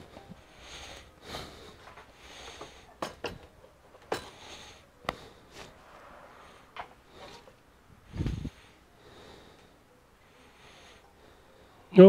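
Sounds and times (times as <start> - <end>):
soft breaths: 0.0 - 12.0.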